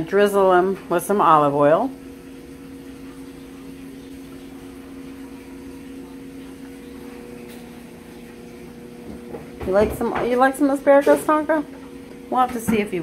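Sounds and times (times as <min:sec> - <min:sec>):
appliance motor humming: 0:00.0 - 0:13.0.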